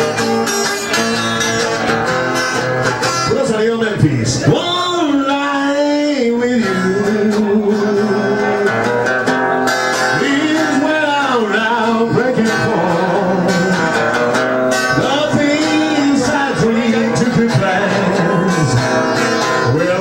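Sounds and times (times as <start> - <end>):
strummed acoustic guitar: 0.0 - 20.0
man singing long notes: 3.4 - 9.3, 9.9 - 20.0.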